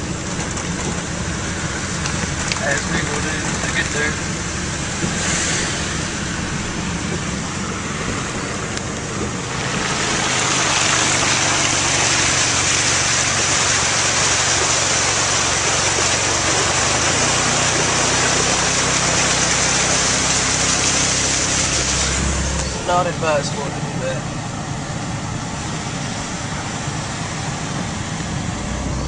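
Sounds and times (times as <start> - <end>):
heavy rain on flooded road: 0.0 - 29.0
vehicle engine idling: 0.0 - 29.0.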